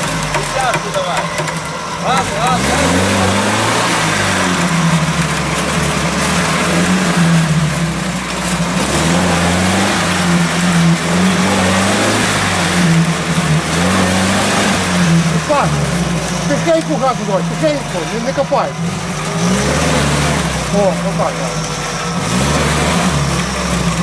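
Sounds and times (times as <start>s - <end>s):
engine revving: 0.0s - 24.0s
wheels churning mud: 0.0s - 24.0s.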